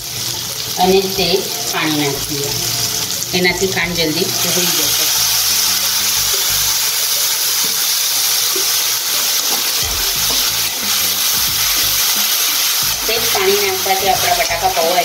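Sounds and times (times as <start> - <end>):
water sizzling in hot pan: 0.0 - 15.0.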